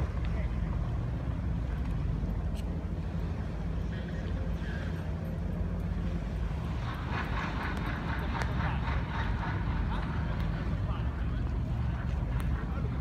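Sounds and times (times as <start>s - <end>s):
boat engines low drone: 0.0s - 13.0s
voices: 2.4s - 13.0s.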